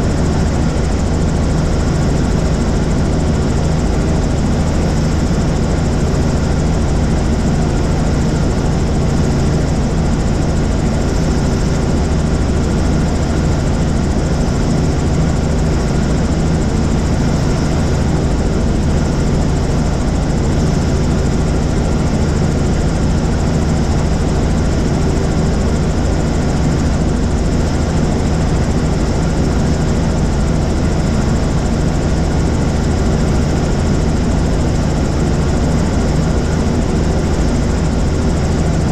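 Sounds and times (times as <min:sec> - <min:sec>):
helicopter rotor and turbine drone: 0:00.0 - 0:38.9.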